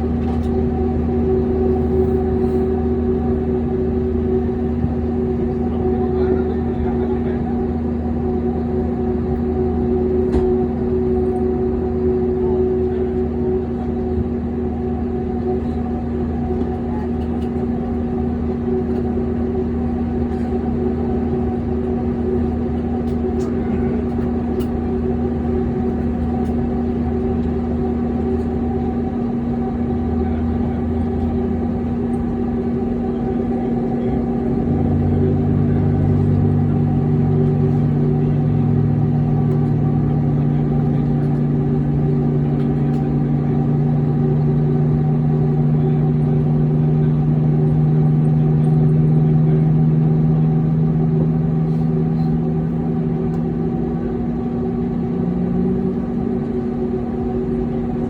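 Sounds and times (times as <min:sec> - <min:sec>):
jet engines hum in cabin: 0:00.0 - 0:58.0.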